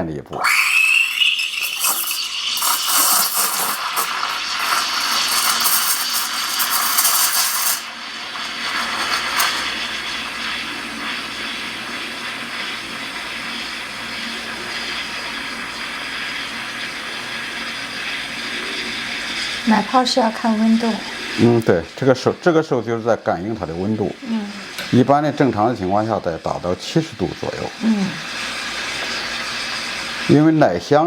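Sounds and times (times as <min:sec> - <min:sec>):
steam wand frothing milk: 0:00.4 - 0:31.0.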